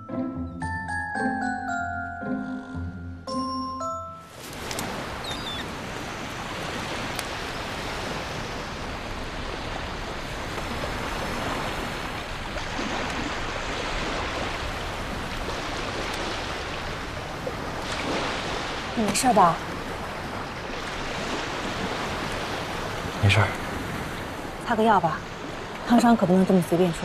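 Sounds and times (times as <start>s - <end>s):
sea waves washing onto beach: 4.3s - 27.0s.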